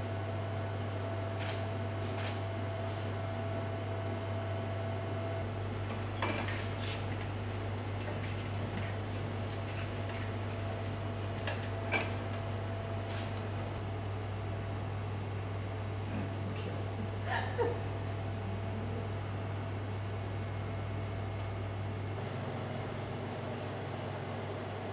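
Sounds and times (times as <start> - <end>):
machine hum and fan noise: 0.0 - 24.9.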